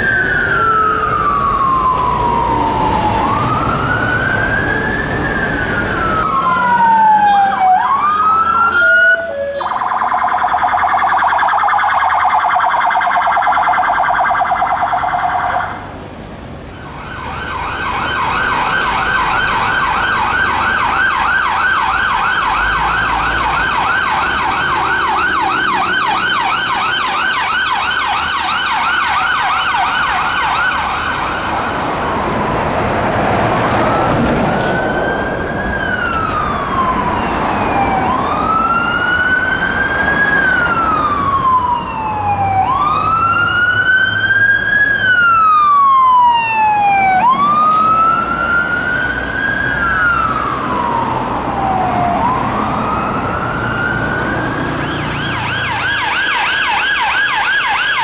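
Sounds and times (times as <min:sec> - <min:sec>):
siren in fast yelp: 0:00.0 - 0:15.8, 0:17.4 - 0:31.8, 0:34.8 - 0:58.0
fire engine siren slow wail: 0:00.0 - 0:16.0, 0:16.7 - 0:58.0.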